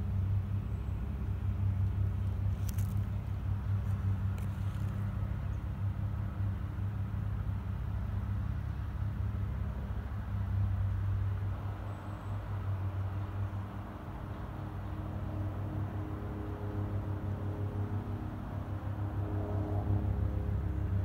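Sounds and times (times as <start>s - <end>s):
helicopter rotor drone: 0.0s - 21.0s.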